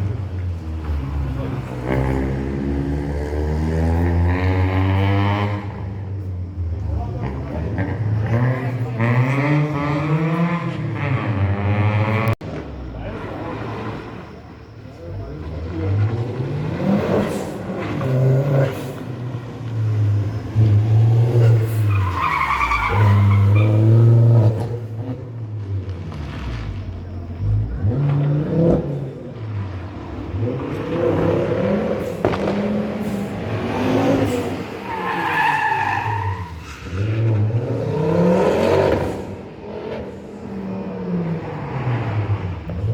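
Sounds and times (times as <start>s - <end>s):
rally car engine revving: 0.0s - 42.9s
tyres skidding and squealing: 0.0s - 42.9s.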